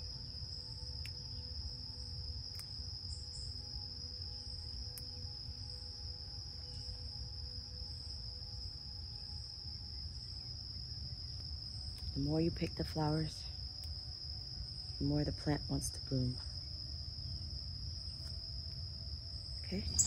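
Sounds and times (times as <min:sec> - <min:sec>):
high-pitched insect trill: 0:00.0 - 0:20.0.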